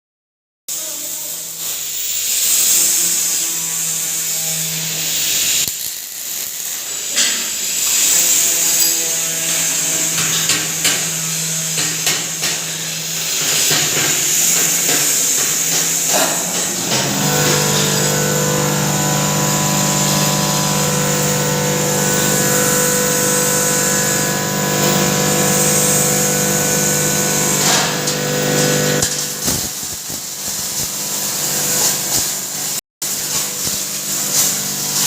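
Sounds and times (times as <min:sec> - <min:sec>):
grinding machine hum and hiss: 0:00.7 - 0:35.0.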